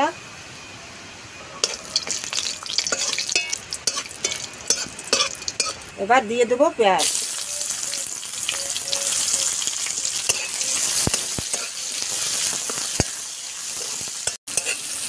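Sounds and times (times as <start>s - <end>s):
onions sizzling in oil: 1.5s - 6.2s, 7.0s - 15.0s.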